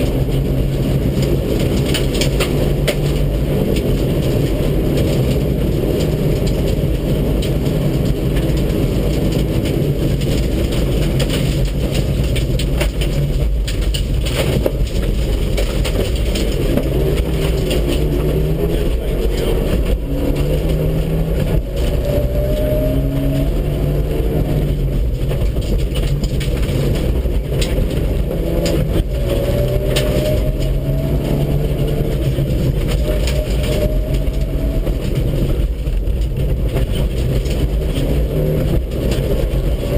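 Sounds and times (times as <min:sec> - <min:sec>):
rally car engine revving: 0:00.0 - 0:39.9
road noise: 0:00.0 - 0:39.9.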